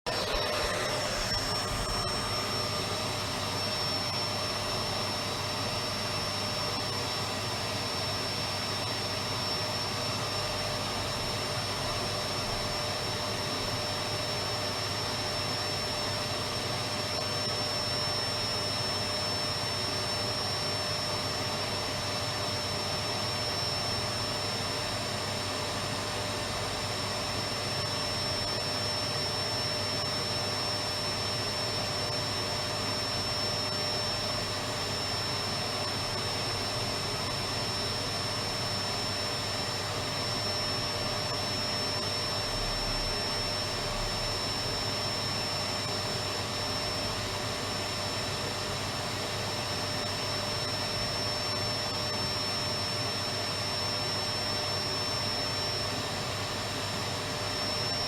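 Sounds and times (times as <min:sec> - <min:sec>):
vacuum cleaner running: 0:00.1 - 0:58.0.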